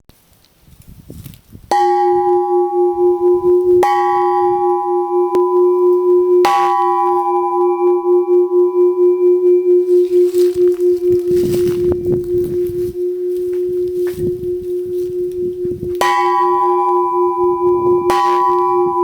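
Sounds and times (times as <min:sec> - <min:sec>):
steel bell ringing: 0:01.7 - 0:19.0.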